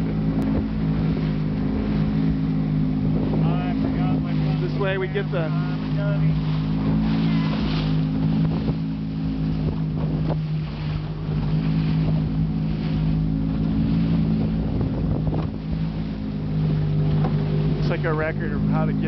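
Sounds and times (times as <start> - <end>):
wind on microphone: 0.0 - 17.8
motorboat engine humming: 0.0 - 19.0
water hissing against hull: 0.0 - 19.0.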